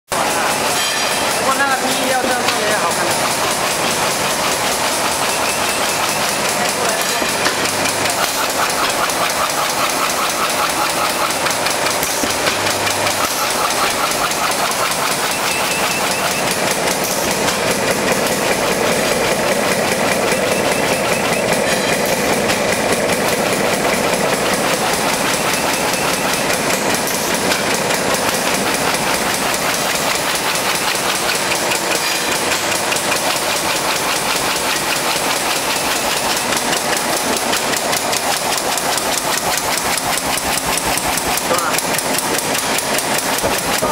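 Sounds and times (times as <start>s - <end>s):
machine clattering: 0.1s - 43.9s.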